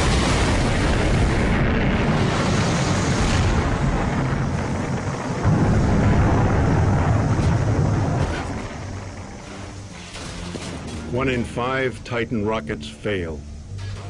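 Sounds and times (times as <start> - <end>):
rocket rumble: 0.0 - 12.2.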